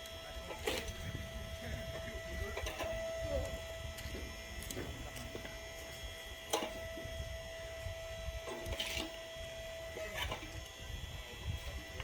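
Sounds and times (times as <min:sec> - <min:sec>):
hydraulic log splitter humming: 0:00.0 - 0:12.0.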